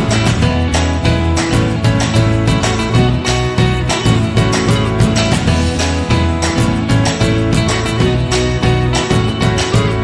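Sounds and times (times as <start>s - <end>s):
upbeat acoustic guitar music: 0.0s - 10.0s.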